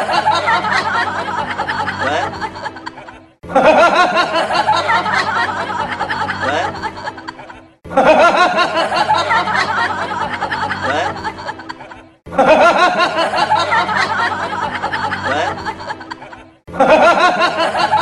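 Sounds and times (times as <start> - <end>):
background music: 0.0 - 18.0
snickering laughter sound effect: 0.0 - 18.0.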